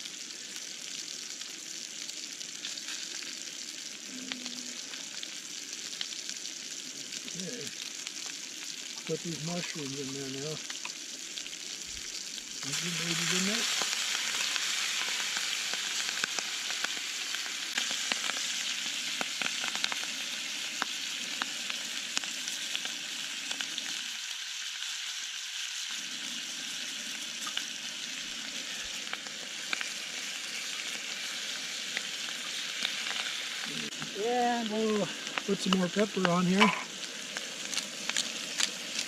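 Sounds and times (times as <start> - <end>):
meat frying with pops: 0.0 - 39.0.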